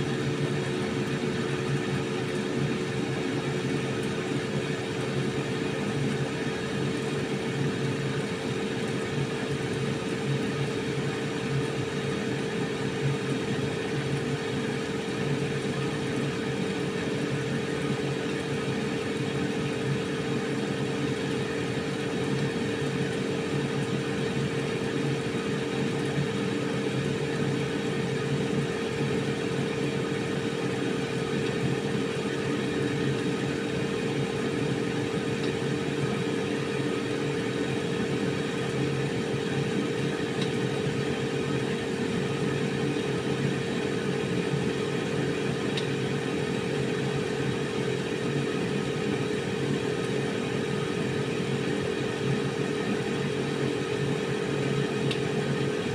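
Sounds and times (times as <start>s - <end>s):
air fryer whirring hum: 0.0s - 55.9s.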